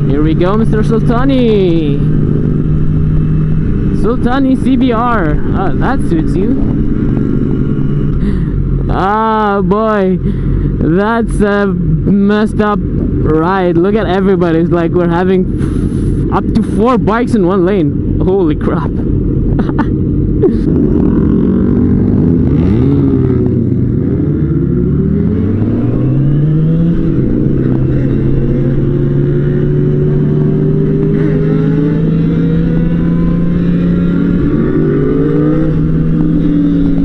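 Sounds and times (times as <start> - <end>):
motorcycle engine accelerating: 0.0 - 37.0
motorcycle engines revving: 0.0 - 37.0.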